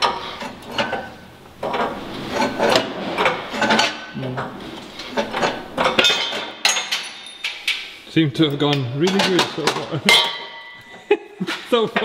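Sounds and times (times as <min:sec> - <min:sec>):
metallic knocks and scrapes: 0:00.0 - 0:11.0.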